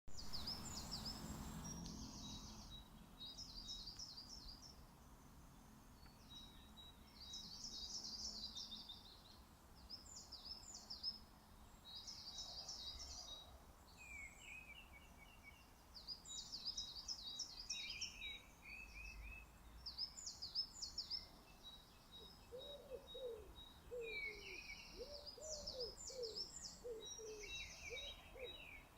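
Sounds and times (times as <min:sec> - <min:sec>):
songbirds singing: 0:00.1 - 0:28.9.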